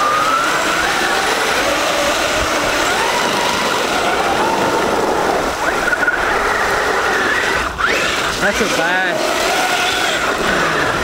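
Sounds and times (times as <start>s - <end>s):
rc car motor whining: 0.0s - 11.0s
steady rush of noise: 0.0s - 11.0s.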